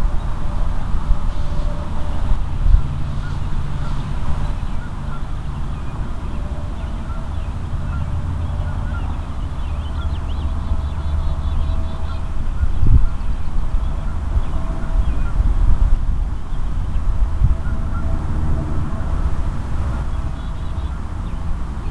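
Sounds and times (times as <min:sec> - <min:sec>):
wind rumble on microphone: 0:00.0 - 0:21.9
distant bird calls: 0:01.2 - 0:21.9.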